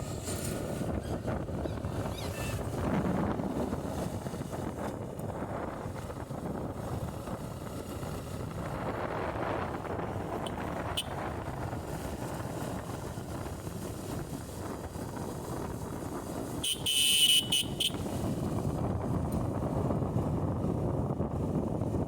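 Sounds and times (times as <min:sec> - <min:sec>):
motorcycle engine and road noise: 0:00.0 - 0:22.0
wind rushing over microphone: 0:00.0 - 0:22.0.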